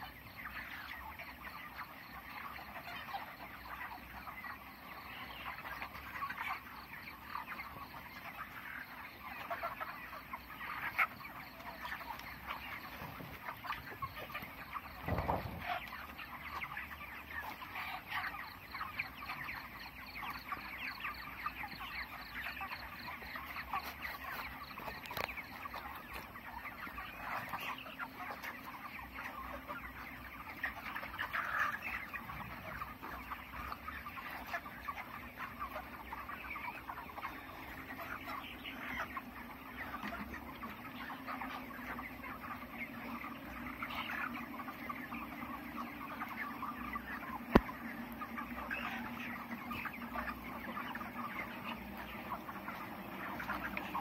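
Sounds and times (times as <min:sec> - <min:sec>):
flock of chickens clucking: 0:00.0 - 0:54.0.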